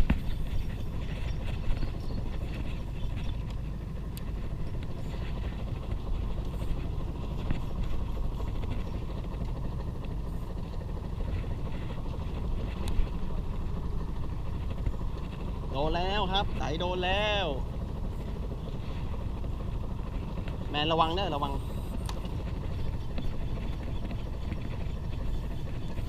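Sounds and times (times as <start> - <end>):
fishing boat engine rumble: 0.0 - 26.0.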